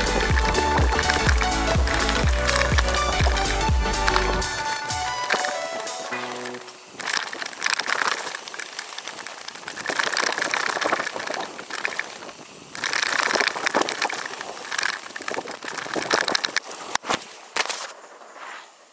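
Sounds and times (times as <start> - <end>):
bike rattling over bumps: 0.0 - 5.5, 6.2 - 17.9.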